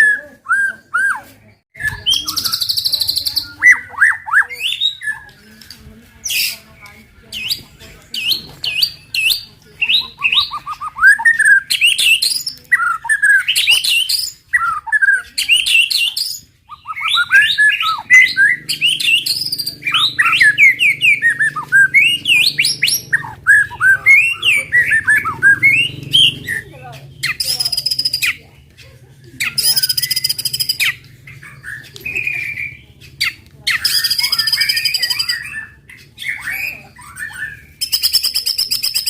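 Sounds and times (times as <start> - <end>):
bird singing whistled phrases: 0.0 - 5.6, 7.3 - 28.4, 29.4 - 39.0.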